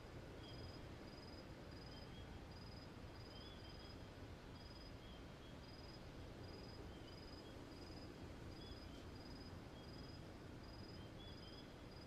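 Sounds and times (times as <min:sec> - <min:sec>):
low steady hiss: 0:00.0 - 0:12.0
insect chirping: 0:00.3 - 0:12.0.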